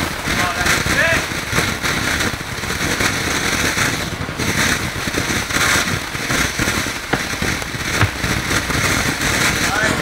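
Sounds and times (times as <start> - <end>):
crackling pops of fireworks: 0.0 - 10.0
fireworks hissing: 0.0 - 10.0.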